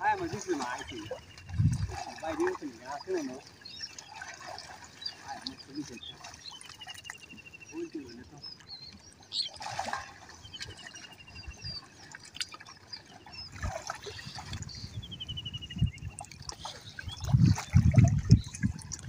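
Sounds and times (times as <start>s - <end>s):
heavy water sloshing: 0.0s - 19.0s
shallow water splashing: 0.0s - 19.0s.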